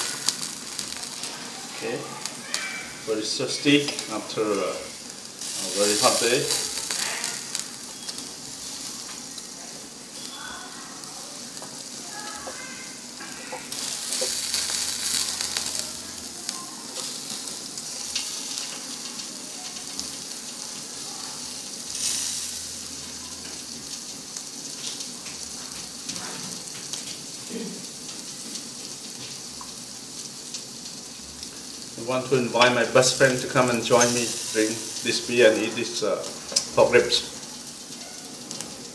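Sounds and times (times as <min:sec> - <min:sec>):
ribs sizzling on a grill: 0:00.0 - 0:38.9.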